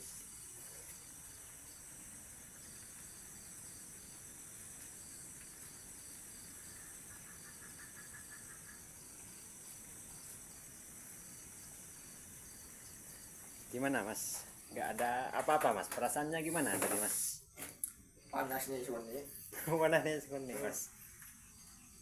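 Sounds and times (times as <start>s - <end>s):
crickets trilling: 0.0s - 22.0s
repeating cricket chirp: 0.0s - 22.0s
short lower insect trill: 0.0s - 22.0s.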